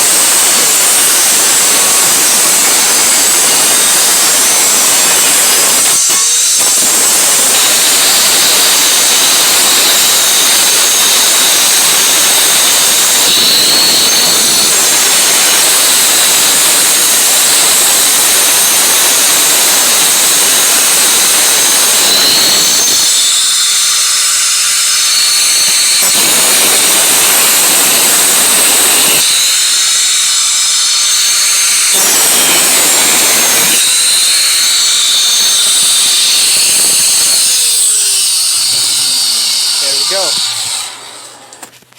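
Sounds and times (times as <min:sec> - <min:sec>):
grinder grinding sheet steel: 0:00.0 - 0:41.9
grinder whine: 0:00.0 - 0:41.9.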